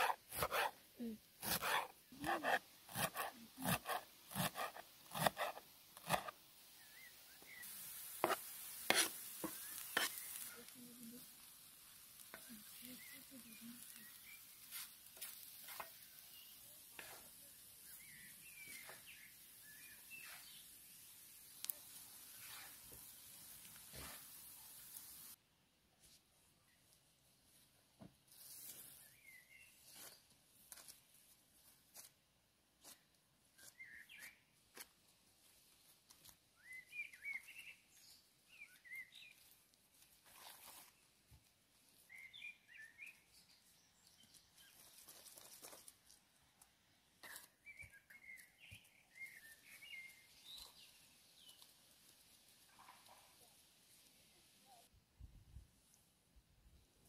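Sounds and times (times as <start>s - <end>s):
small birds chirping: 0.0s - 25.4s, 28.6s - 30.3s, 32.8s - 34.9s, 35.6s - 41.2s, 41.8s - 54.9s.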